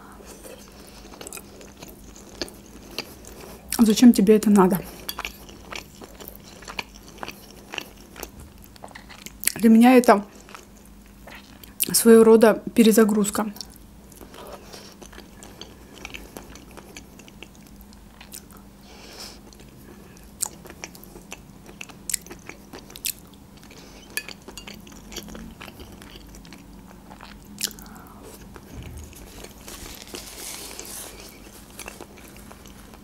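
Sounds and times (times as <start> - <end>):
chewing soft food: 0.2 - 3.8, 4.8 - 9.6, 10.3 - 11.9, 13.6 - 33.0.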